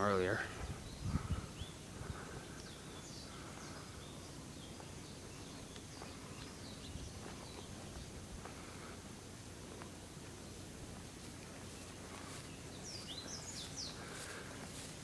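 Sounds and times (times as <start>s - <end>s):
birds chirping: 0.0s - 8.9s, 11.4s - 15.0s
faint outdoor background: 0.0s - 15.0s.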